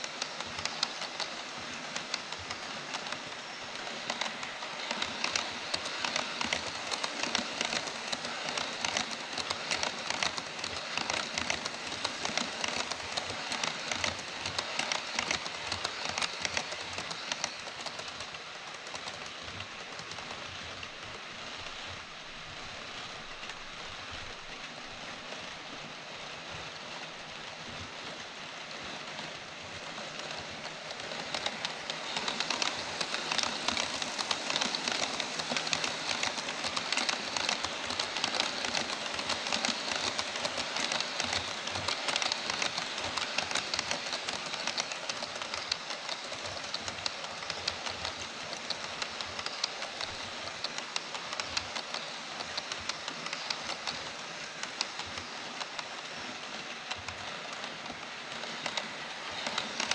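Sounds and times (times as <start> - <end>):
model train wheels clicking over rails: 0.0 - 59.9.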